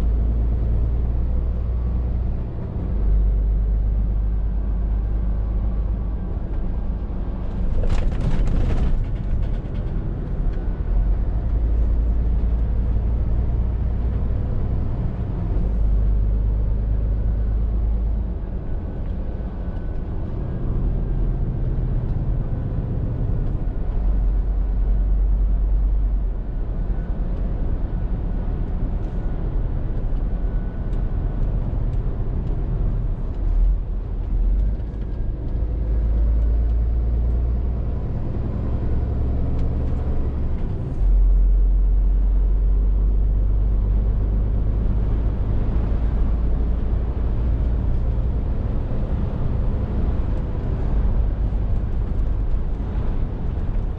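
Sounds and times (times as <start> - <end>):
lorry diesel engine droning: 0.0 - 53.9
road rumble: 0.0 - 53.9.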